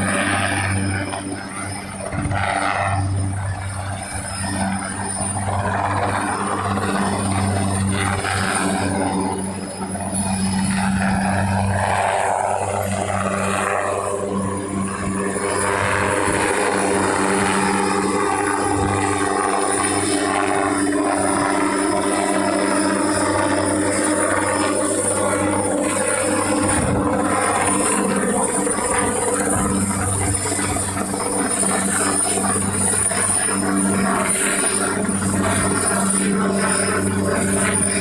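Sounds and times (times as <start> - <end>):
helicopter rotor drone: 0.0 - 38.0.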